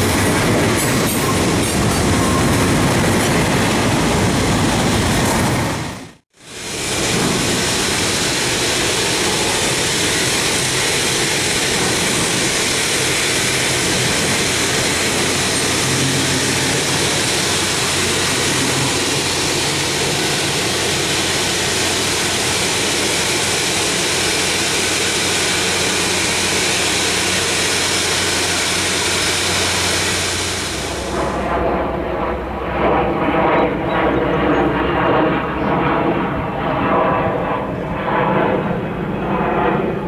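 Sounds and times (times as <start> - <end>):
freight train wheels on rails: 0.0 - 40.0.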